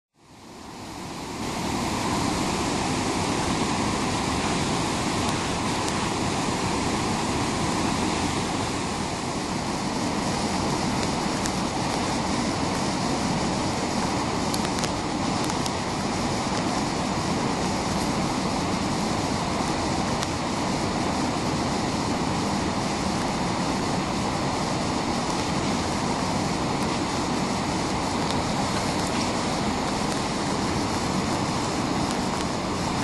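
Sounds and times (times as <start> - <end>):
river rapids rushing: 0.2 - 33.0.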